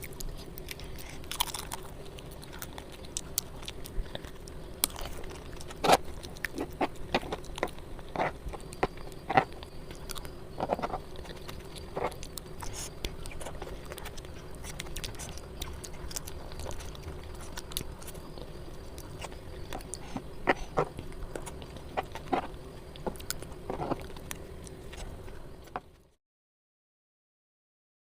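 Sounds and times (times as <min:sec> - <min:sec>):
chewing with mouth clicks: 0:00.0 - 0:25.9
steady background hum: 0:00.0 - 0:26.2.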